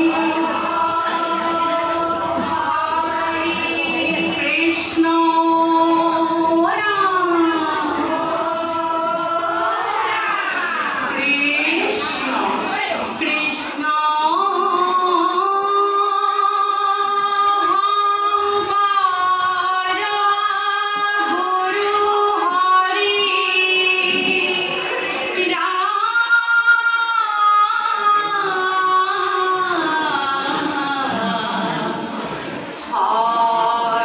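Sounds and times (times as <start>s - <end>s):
women singing devotional chant: 0.0s - 34.0s.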